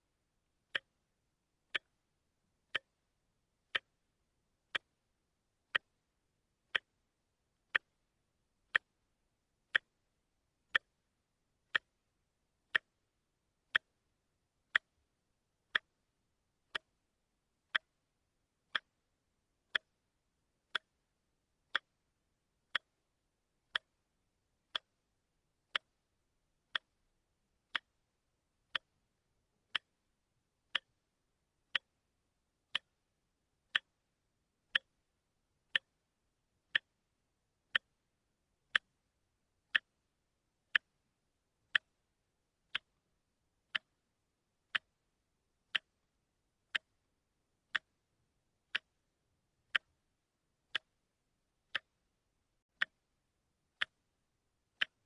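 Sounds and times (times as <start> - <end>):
wristwatch ticking: 0.7 - 5.0, 5.6 - 9.0, 9.7 - 33.1, 33.7 - 55.0.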